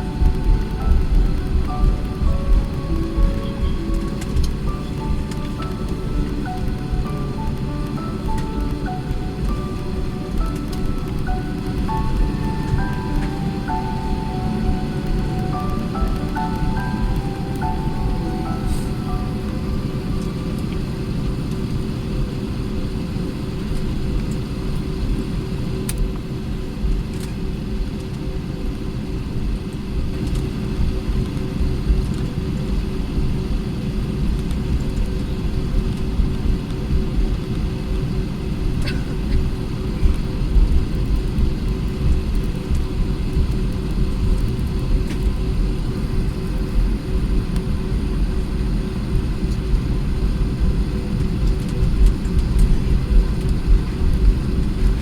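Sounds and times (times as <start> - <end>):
aircraft cabin engine rumble: 0.0 - 25.2, 30.2 - 55.0.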